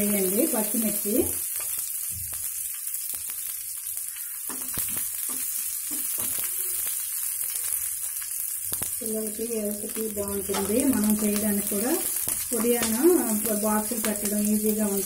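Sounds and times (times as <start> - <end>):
oil sizzling in frying pan: 0.0 - 15.0.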